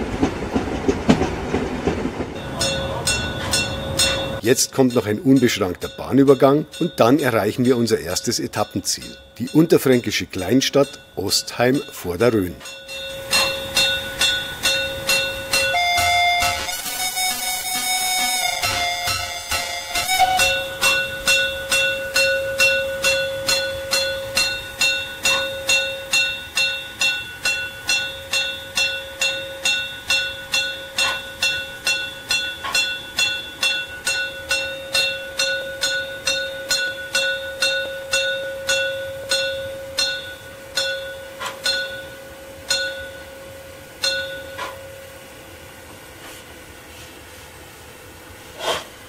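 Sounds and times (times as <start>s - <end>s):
locomotive bell ringing: 2.3s - 45.7s.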